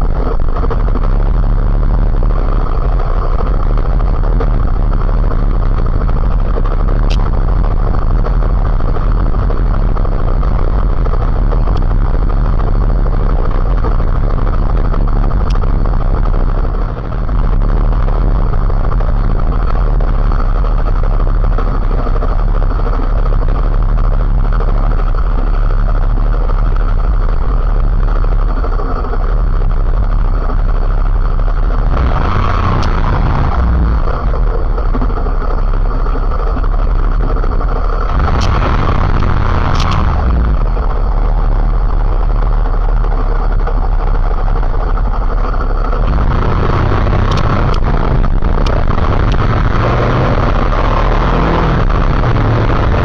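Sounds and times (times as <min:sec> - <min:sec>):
motorcycle engine: 0:00.0 - 0:53.0
wind rumble on microphone: 0:00.0 - 0:53.0.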